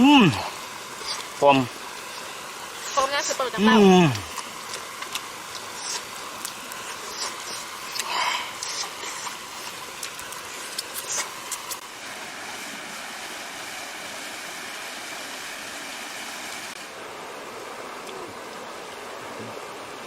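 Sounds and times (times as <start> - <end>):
stream water running: 0.0 - 20.0.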